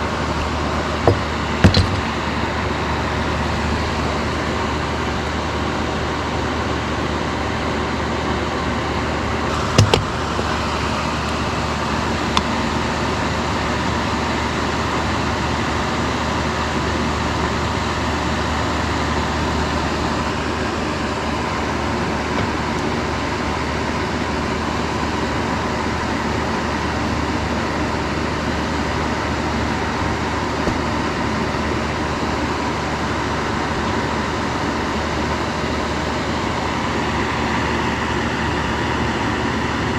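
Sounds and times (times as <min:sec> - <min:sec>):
electric fan whooshing and humming: 0:00.0 - 0:39.9.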